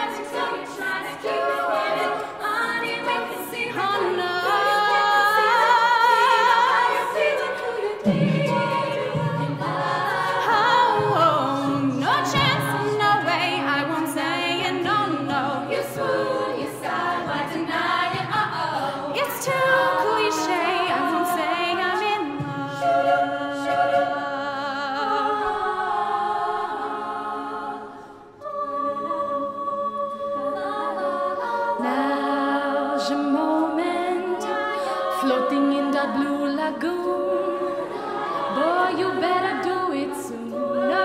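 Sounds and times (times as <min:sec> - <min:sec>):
women singing a cappella: 0:00.0 - 0:41.0.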